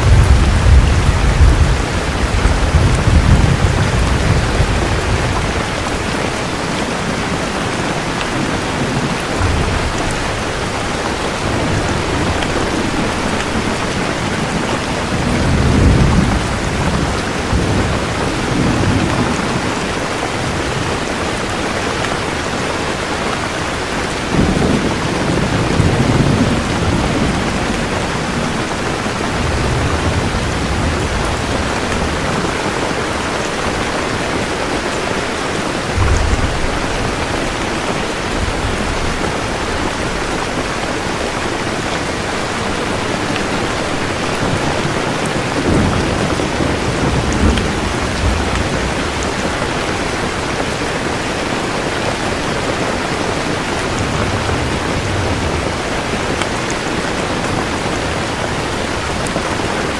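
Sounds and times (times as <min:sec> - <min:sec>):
heavy rain falling: 0:00.0 - 0:59.9
thunder rumbling: 0:00.0 - 0:59.9.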